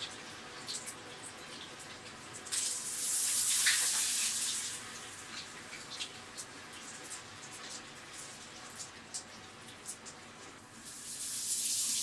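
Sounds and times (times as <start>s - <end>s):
oil sizzling and crackling: 0.0s - 12.0s.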